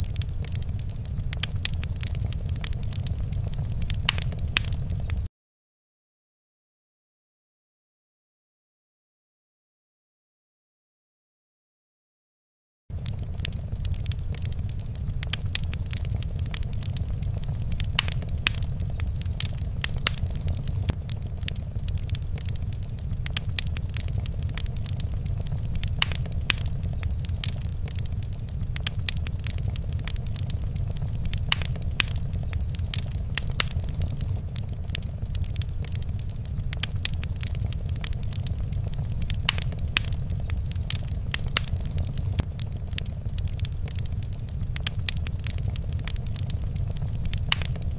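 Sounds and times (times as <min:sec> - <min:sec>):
low fire rumble: 0:00.0 - 0:05.3, 0:12.9 - 0:47.9
wood fire crackling: 0:00.0 - 0:05.3, 0:12.9 - 0:47.9.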